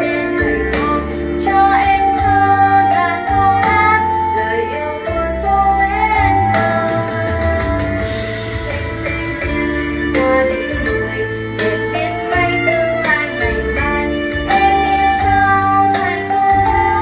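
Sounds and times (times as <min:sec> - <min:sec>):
girl singing: 0:00.0 - 0:07.5, 0:09.3 - 0:17.0
pop backing track: 0:00.0 - 0:17.0.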